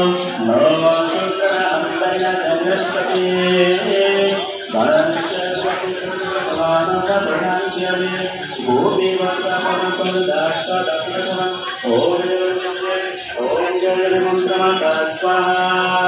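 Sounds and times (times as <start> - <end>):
devotional chanting: 0.0 - 16.0
jingling percussion: 0.0 - 16.0.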